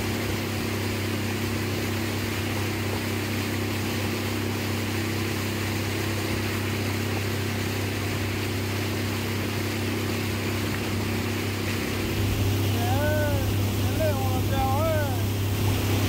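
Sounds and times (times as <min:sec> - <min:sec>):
engine droning: 0:00.0 - 0:16.0
wind or water hiss: 0:00.0 - 0:16.0.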